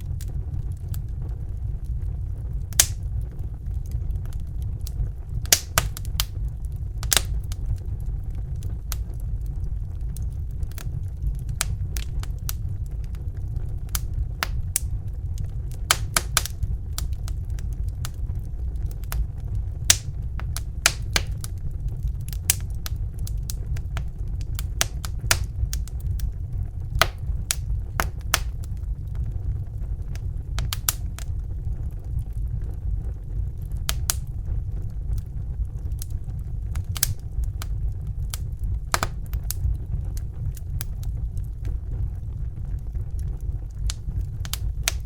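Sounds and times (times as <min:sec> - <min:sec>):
fire crackling: 0:00.0 - 0:45.0
low fire rumble: 0:00.0 - 0:45.0.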